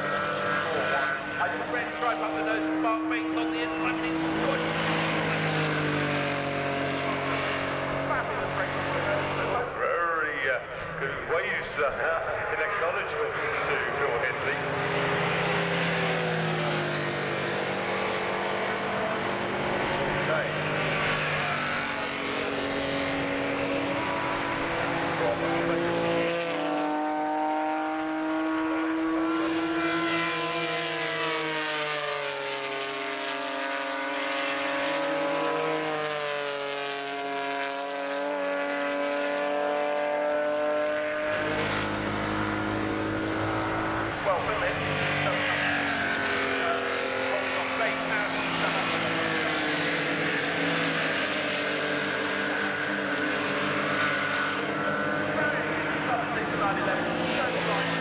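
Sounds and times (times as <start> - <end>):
racing car engine running: 0.0 - 58.0.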